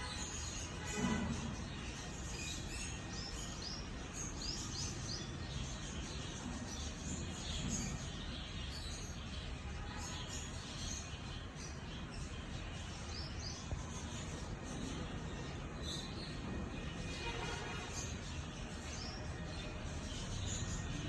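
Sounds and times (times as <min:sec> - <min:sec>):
small birds chirping: 0:00.0 - 0:21.0
steady background noise: 0:00.0 - 0:21.0.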